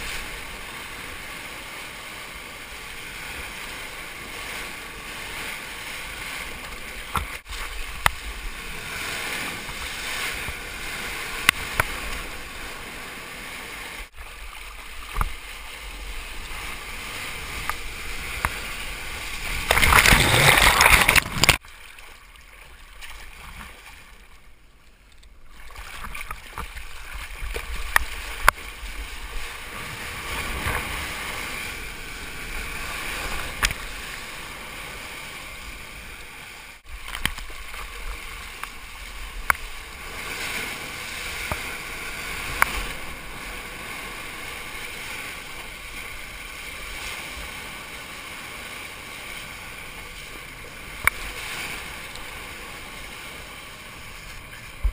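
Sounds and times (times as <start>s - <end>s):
sea water splashing: 0.0s - 54.9s.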